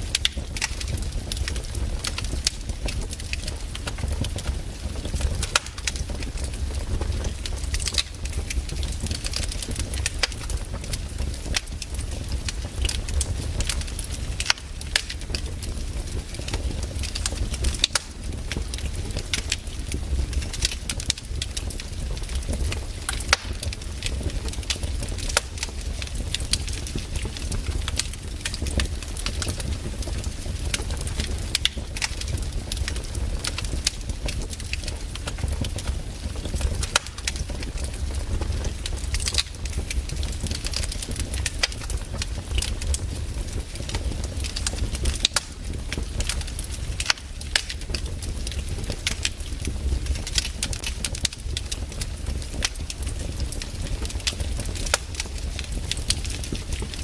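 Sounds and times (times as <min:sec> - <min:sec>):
campfire crackling and popping: 0:00.0 - 0:57.0
low steady fire rumble: 0:00.0 - 0:57.0.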